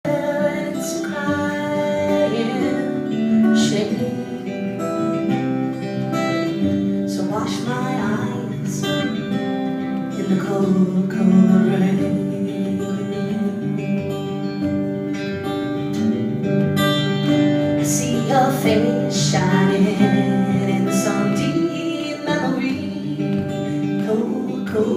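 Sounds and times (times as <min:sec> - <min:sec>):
acoustic guitar playing: 0:00.0 - 0:24.9.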